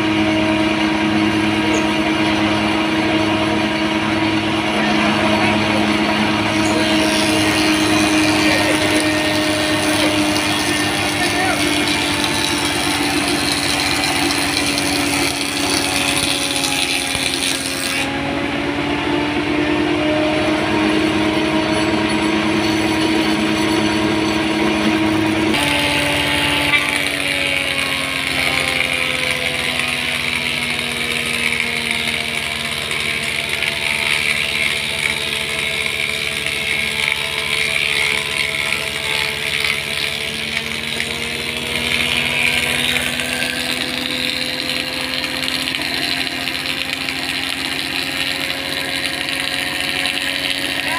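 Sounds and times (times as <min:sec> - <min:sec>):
wood planer whining: 0:00.0 - 0:50.9.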